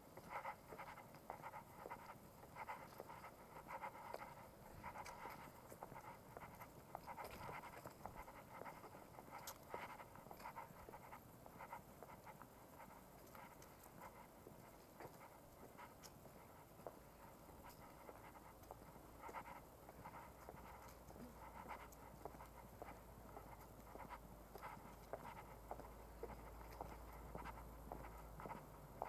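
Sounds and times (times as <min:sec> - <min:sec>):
light ticks and rustle: 0:00.0 - 0:29.0.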